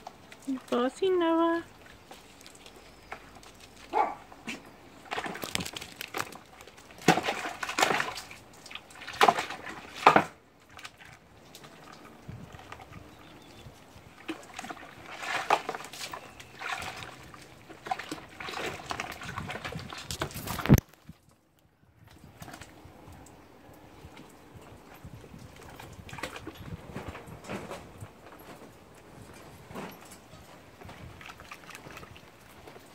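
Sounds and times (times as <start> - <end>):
water splashing in plastic tub: 0.0 - 21.4, 22.0 - 28.8, 29.6 - 32.9.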